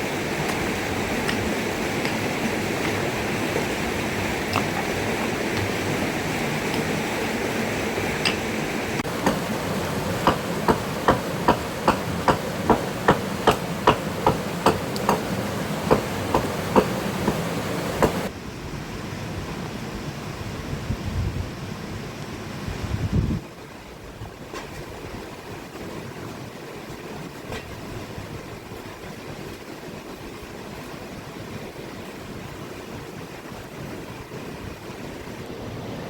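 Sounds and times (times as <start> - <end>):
rushing water: 0.0 - 20.8, 21.6 - 36.0.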